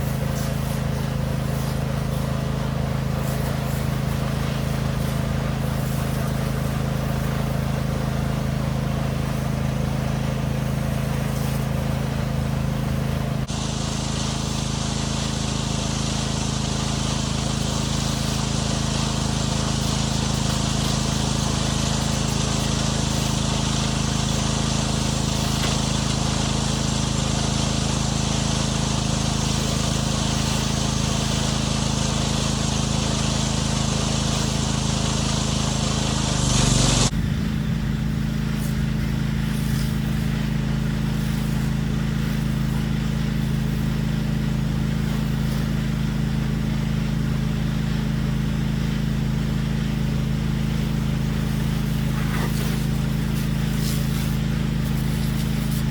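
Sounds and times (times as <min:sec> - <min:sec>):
pressure washer engine running: 0:00.0 - 0:55.9
water jet hissing: 0:00.0 - 0:55.9.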